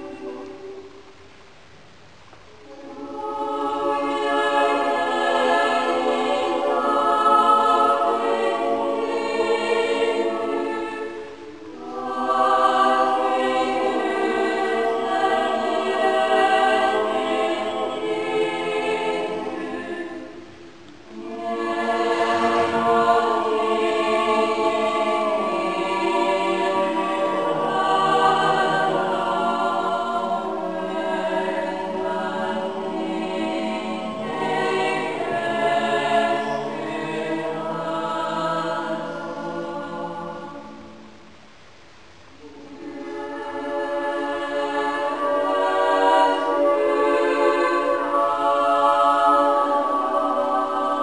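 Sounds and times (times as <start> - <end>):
choir singing a cappella: 0.0 - 1.2, 2.5 - 41.4, 42.2 - 51.0.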